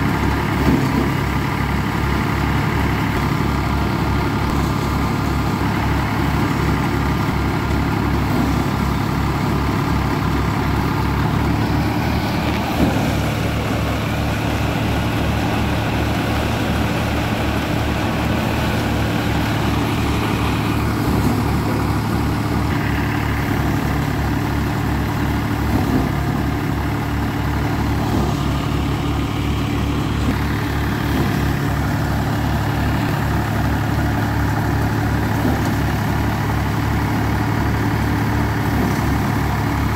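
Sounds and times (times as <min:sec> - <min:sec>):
tractor engine running: 0:00.0 - 0:39.9
threshing drum whirring: 0:00.1 - 0:39.9.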